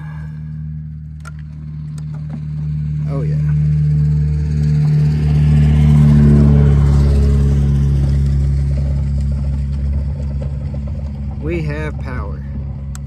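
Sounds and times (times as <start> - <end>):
vehicle driving past: 0.0 - 11.4
low engine hum: 0.0 - 13.0.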